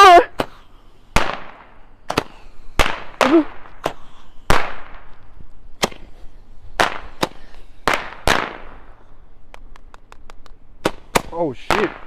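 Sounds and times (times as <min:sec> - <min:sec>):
fireworks bangs: 0:00.3 - 0:12.0.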